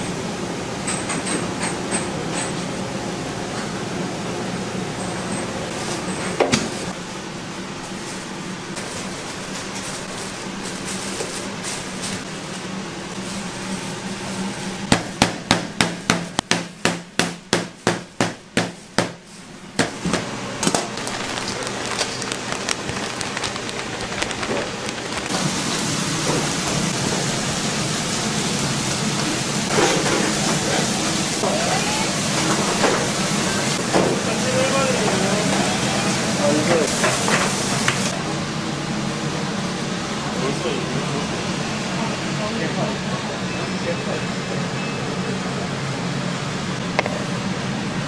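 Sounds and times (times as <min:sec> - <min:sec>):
steady machine hum: 0:00.0 - 0:48.0.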